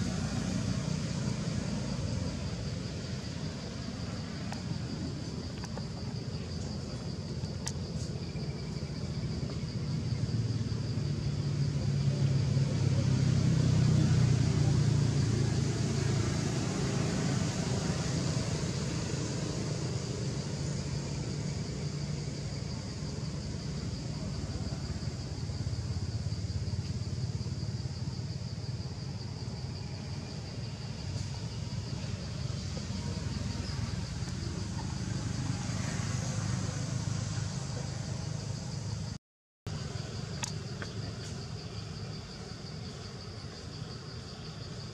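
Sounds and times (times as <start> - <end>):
low outdoor rumble: 0.0 - 44.9.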